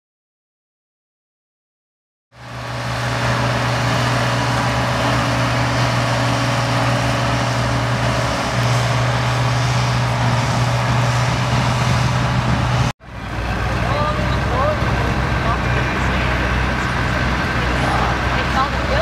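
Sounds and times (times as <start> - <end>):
tractor diesel engine under load: 2.3 - 19.0.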